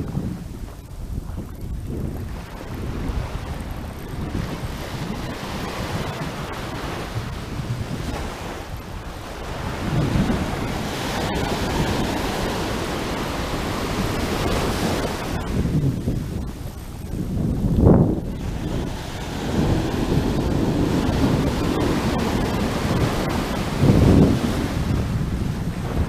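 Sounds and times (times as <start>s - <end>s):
surf washing up beach: 0.0s - 26.0s
wind buffeting microphone: 0.0s - 26.0s.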